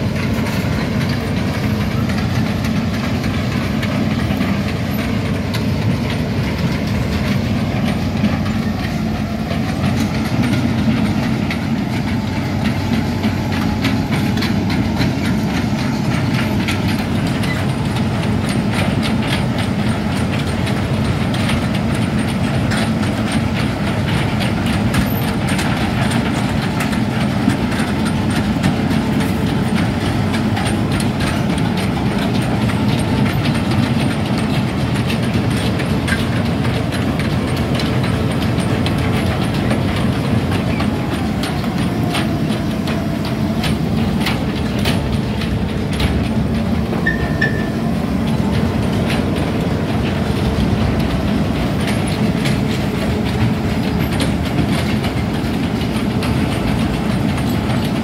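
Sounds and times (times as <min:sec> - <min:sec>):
diesel engine running: 0:00.0 - 0:58.0
track cleats clattering: 0:00.0 - 0:58.0.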